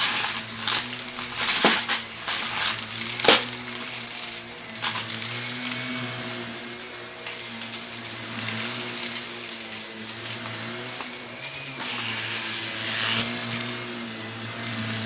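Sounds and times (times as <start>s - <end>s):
debris rattling through vacuum: 0.0s - 15.0s
vacuum cleaner motor hum: 0.0s - 15.0s.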